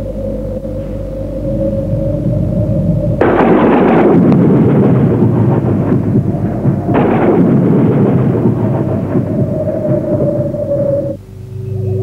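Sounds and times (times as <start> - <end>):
thunder clap and rumble: 1.2 - 11.2.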